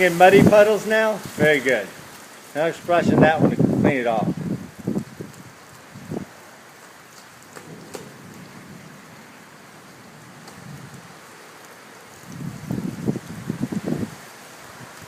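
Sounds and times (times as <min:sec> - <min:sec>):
light rain hissing: 0:00.0 - 0:15.0.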